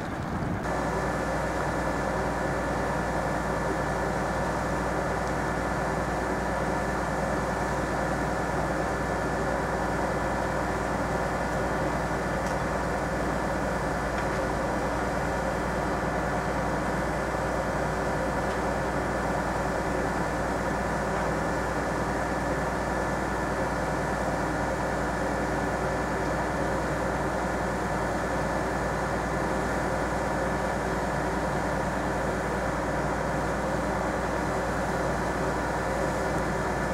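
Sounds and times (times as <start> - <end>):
diesel engine running steadily: 0.0 - 36.9.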